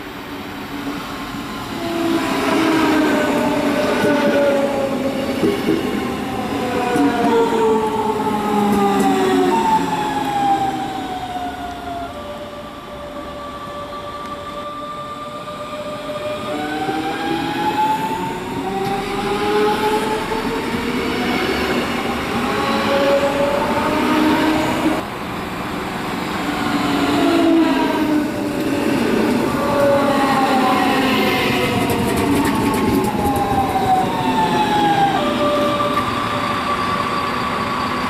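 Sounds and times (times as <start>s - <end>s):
train approaching: 0.0s - 38.0s.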